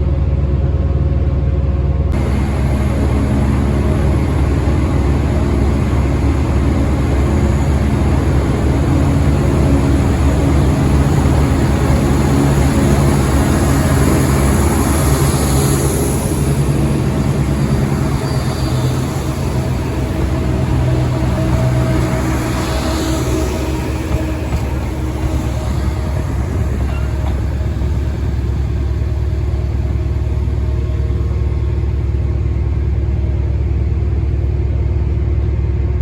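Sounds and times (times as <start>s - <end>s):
train engine rumble and hum: 0.0s - 36.0s
faint high whine: 2.2s - 34.1s.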